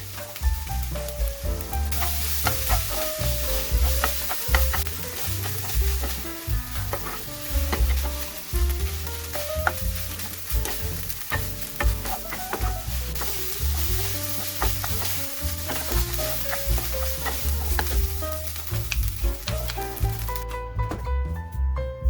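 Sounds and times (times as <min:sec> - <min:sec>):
rice sizzling in a pan: 0:00.0 - 0:20.4
spatula scraping a pan: 0:00.0 - 0:20.4
background music with bass: 0:00.0 - 0:22.0
spatula clicking against pan: 0:01.6 - 0:20.4.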